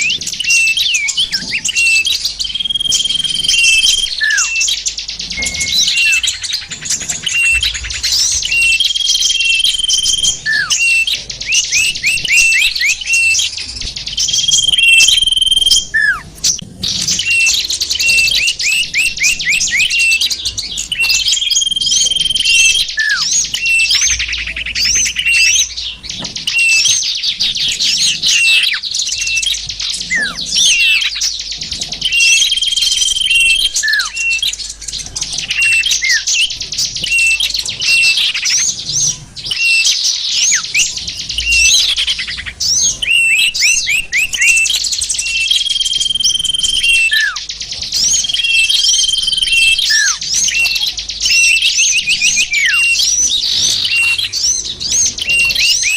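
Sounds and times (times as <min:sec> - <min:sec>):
bird whistles: 0:00.0 - 0:55.9
songbirds chirping and trilling: 0:00.0 - 0:55.9.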